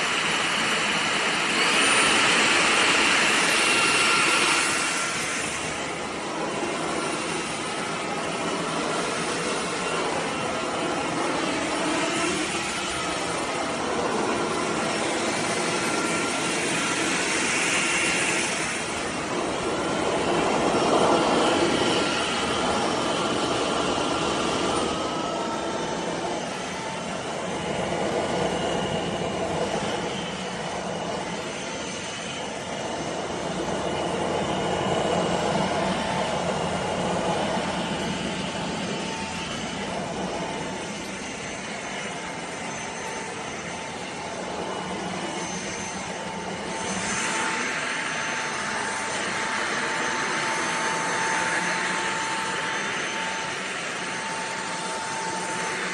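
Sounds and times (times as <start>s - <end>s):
stick vacuum running: 0.0s - 55.9s.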